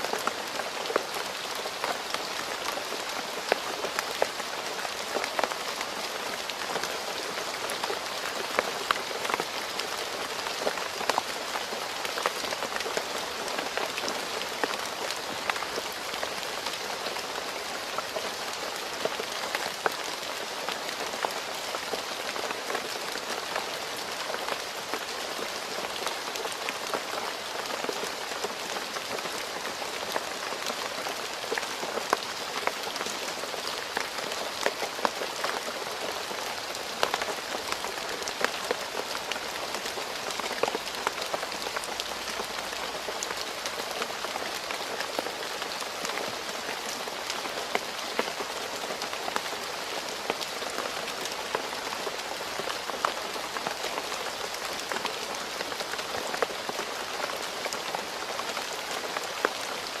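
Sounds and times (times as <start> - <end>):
rain falling on road: 0.0 - 60.0.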